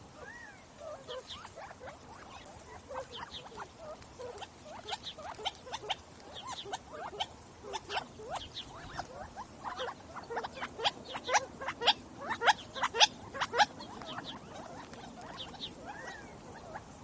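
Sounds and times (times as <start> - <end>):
flock of small birds chirping: 0.0 - 17.0.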